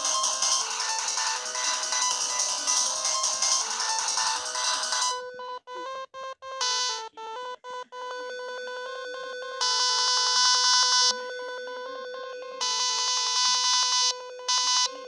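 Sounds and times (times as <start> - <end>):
brighter ringtone layer: 0.0 - 15.0
phone ringtone melody: 0.0 - 15.0.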